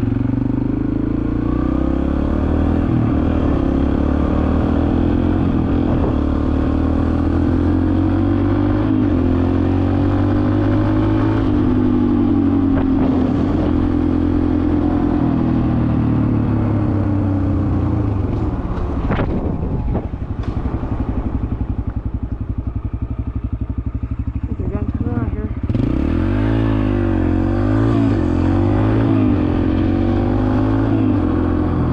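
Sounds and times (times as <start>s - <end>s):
dirt bike engine: 0.0s - 31.9s.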